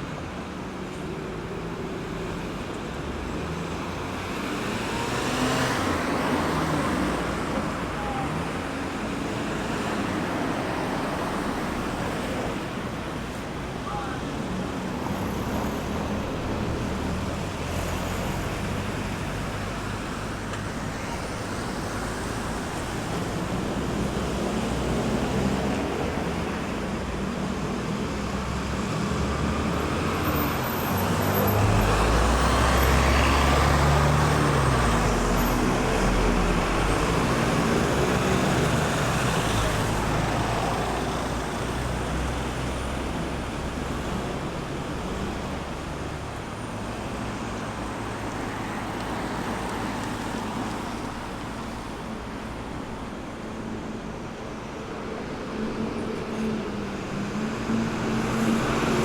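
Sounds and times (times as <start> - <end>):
road traffic tyre and engine noise: 0.0 - 59.0.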